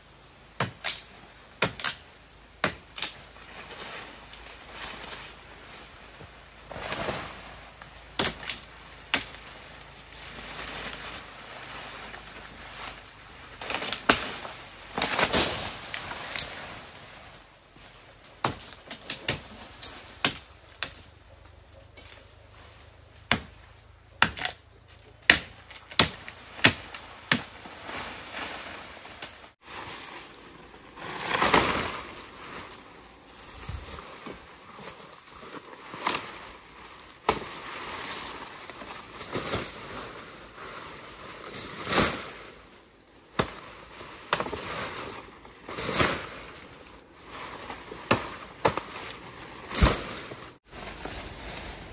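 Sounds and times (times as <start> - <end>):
leafy rustling: 0.0 - 51.9
branches cracking and snapping: 0.6 - 5.4, 6.6 - 17.0, 18.1 - 30.4, 31.0 - 40.3, 43.3 - 51.9.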